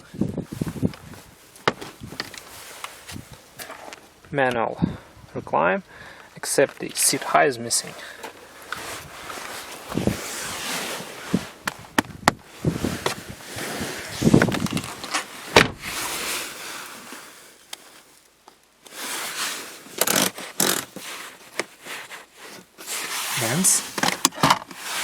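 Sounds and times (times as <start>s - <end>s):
rustling and scraping: 0.3s - 4.2s, 6.5s - 25.0s.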